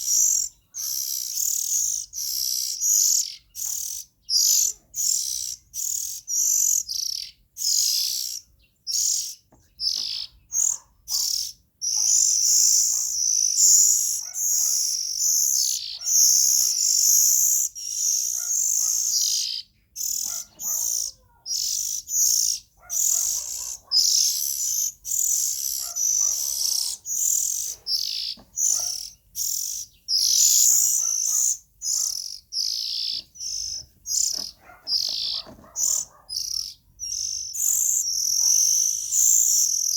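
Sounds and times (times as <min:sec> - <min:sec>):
bird high chirping: 0:00.0 - 0:39.9.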